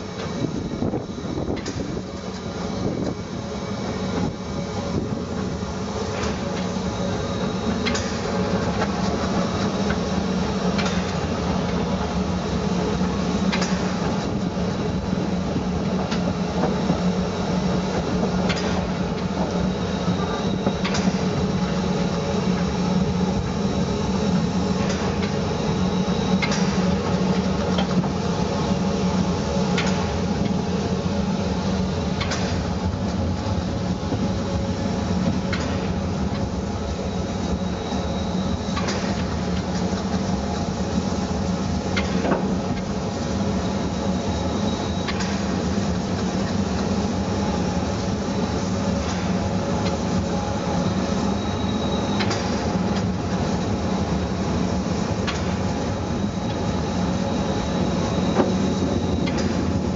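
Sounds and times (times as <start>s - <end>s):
locomotive machinery humming and hissing: 0.0s - 59.9s.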